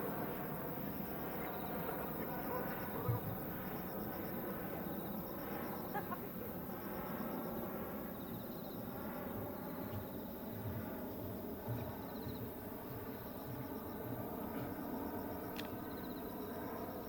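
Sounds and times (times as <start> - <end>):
insects chirping in trills: 0.0 - 17.0.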